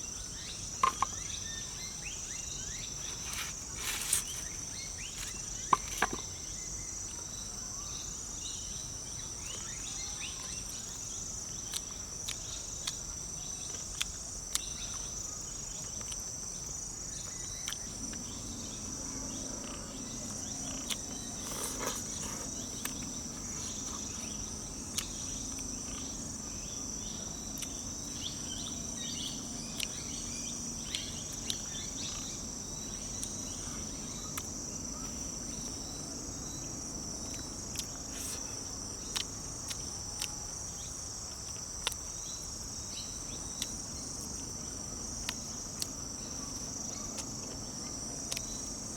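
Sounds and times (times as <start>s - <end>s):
faint low hum: 0.0s - 48.9s
insects chirring: 0.0s - 48.9s.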